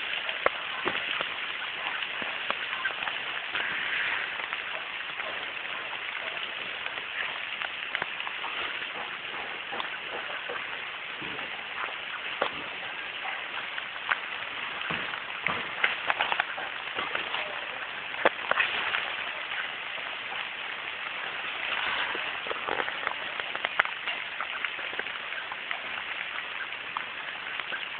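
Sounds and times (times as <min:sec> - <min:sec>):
rain falling on leaves: 0:00.0 - 0:27.9
raindrops tapping close by: 0:00.0 - 0:27.9.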